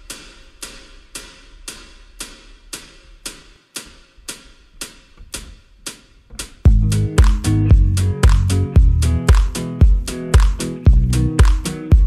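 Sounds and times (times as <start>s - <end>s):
cymbal-like ticking: 0.0s - 12.0s.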